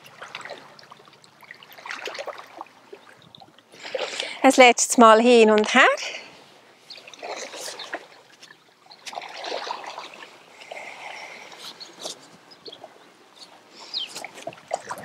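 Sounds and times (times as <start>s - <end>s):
lake water lapping at shore: 0.0s - 4.6s, 6.1s - 15.0s.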